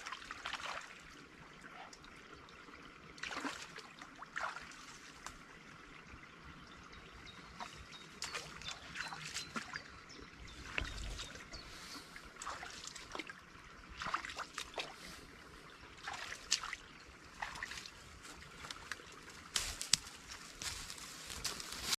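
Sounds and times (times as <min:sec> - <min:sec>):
water splashes and drips: 0:00.0 - 0:22.0
water trickling: 0:00.0 - 0:22.0.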